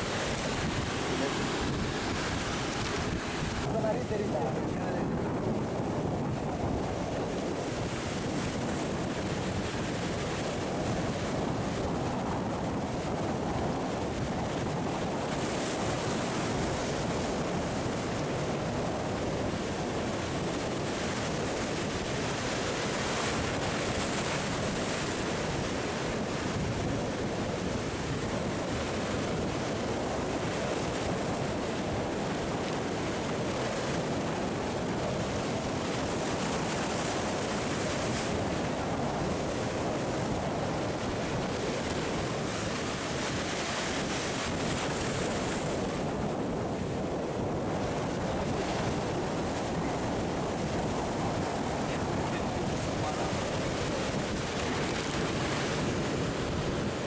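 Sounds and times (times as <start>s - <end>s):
sea surf breaking on rocks: 0.0s - 57.0s
wind buffeting microphone: 0.0s - 57.0s.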